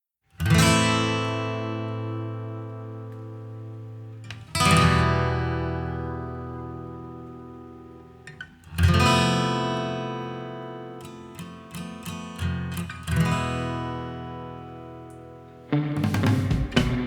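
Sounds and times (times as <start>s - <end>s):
acoustic guitar strumming: 0.4s - 17.0s.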